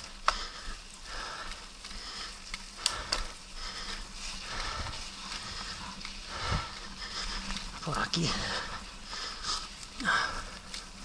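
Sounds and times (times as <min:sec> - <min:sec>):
bike clicks and rattles: 0:00.0 - 0:11.0
person breathing close to microphone: 0:00.0 - 0:11.0.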